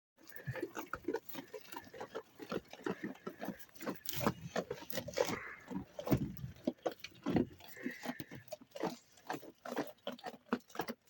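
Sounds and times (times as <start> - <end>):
sheep crunching and chewing: 0.2 - 11.0.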